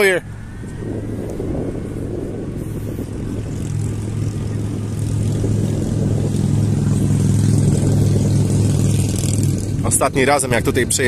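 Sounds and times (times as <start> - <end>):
even rushing noise: 0.0 - 11.0
low motor hum: 0.0 - 11.0.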